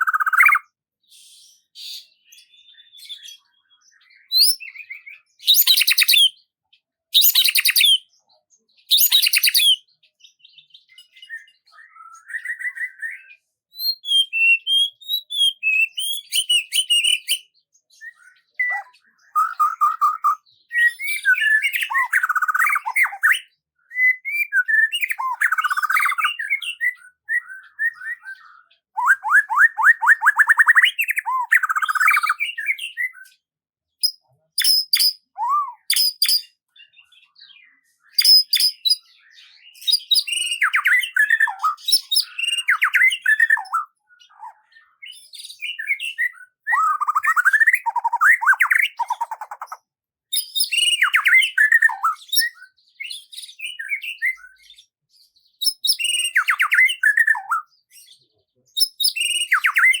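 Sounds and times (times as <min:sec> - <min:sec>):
songbird singing: 0:00.0 - 0:00.8, 0:01.6 - 0:55.0, 0:55.6 - 1:00.0.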